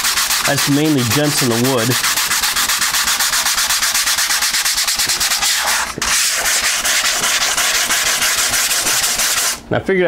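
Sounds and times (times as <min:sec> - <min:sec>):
sandpaper rasping on resin: 0:00.0 - 0:09.6.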